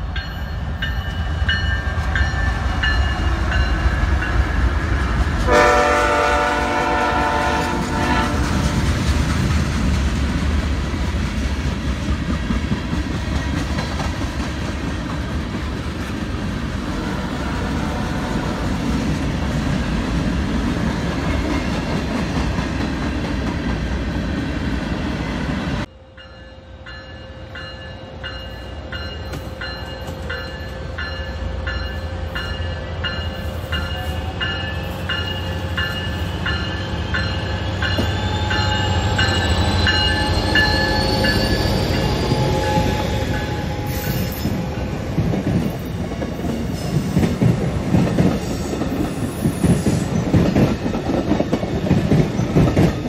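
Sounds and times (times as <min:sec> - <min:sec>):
train clickety-clack: 0:00.0 - 0:25.8, 0:28.3 - 0:53.0
freight train wheels rumbling: 0:00.0 - 0:53.0.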